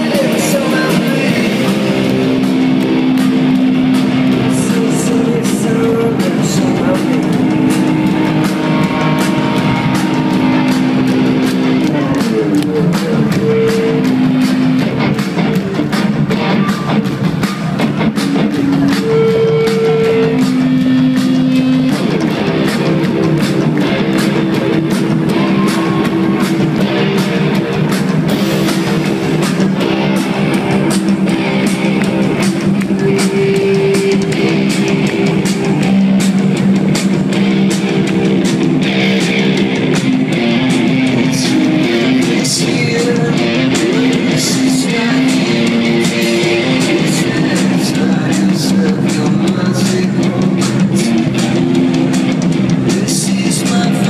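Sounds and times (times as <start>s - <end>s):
electric guitars: 0.0s - 54.0s
pounding drum kit: 0.0s - 54.0s.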